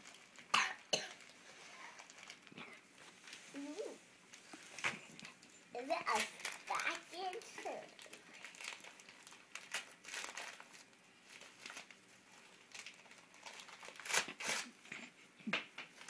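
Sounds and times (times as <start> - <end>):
paper crinkling and tearing: 1.1 - 14.8.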